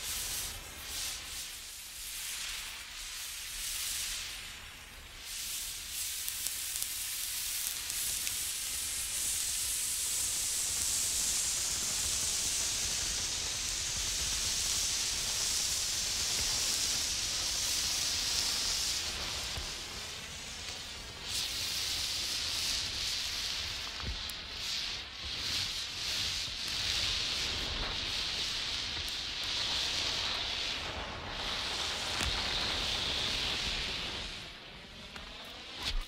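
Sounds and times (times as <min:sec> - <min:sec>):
road flare fizzing hiss: 0:00.0 - 0:36.0.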